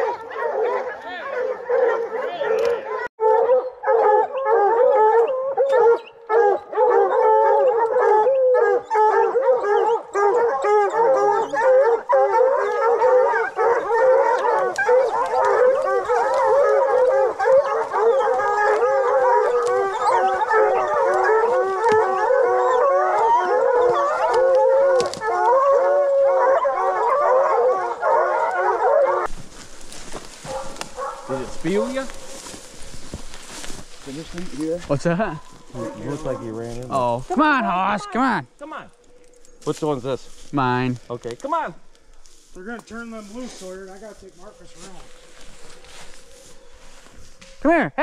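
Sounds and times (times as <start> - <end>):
hounds baying and howling: 0.0 - 40.4, 41.8 - 47.4.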